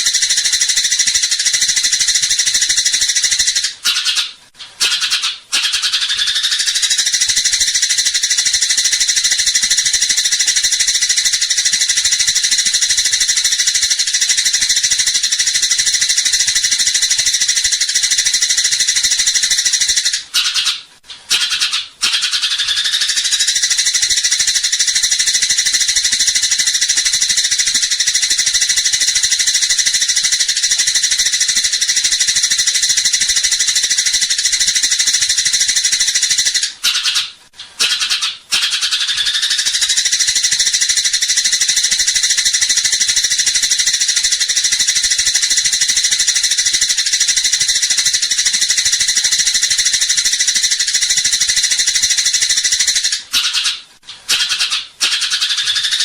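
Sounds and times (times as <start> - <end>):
sparrow rapid chattering call: 0.0 - 56.0.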